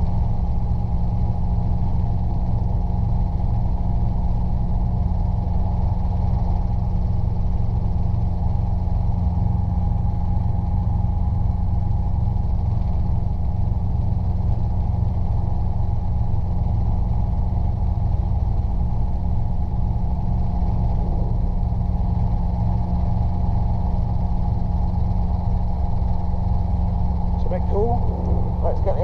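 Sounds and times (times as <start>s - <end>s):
helicopter engine and rotors running: 0.0s - 29.0s.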